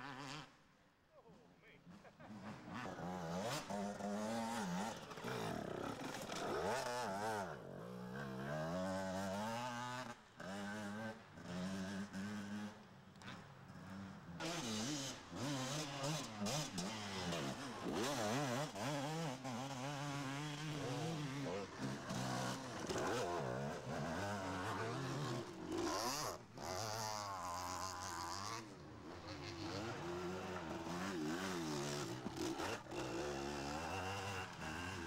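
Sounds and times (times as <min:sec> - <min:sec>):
dirt bike engines revving: 0:01.2 - 0:35.0.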